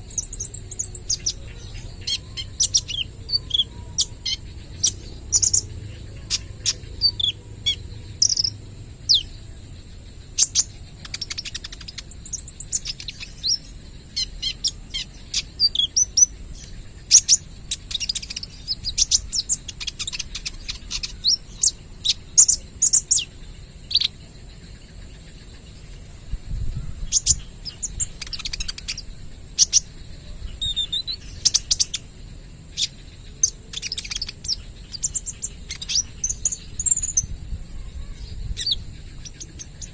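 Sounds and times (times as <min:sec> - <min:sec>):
bird chips and trills: 0:00.0 - 0:39.9.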